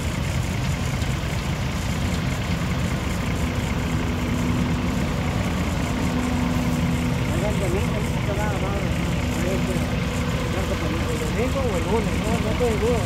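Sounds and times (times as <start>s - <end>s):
combine harvester engine: 0.0s - 13.0s
steady hum: 0.0s - 13.0s.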